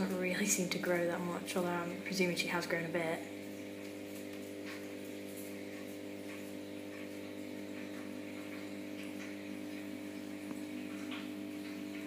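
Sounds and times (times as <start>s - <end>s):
aquarium pump humming: 0.0s - 12.0s
water splashes and bubbles: 0.0s - 12.0s.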